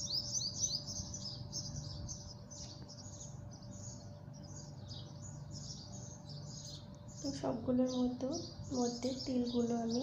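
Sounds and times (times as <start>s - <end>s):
low steady hum: 0.0s - 10.0s
small birds chirping: 0.0s - 10.0s.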